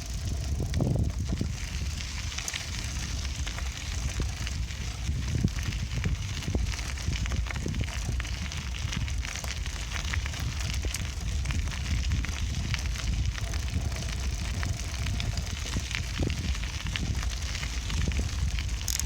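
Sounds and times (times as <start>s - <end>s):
bicycle rattling: 0.0s - 19.0s
tyres rolling over rough surface: 0.0s - 19.0s
wind buffeting microphone: 0.0s - 19.0s.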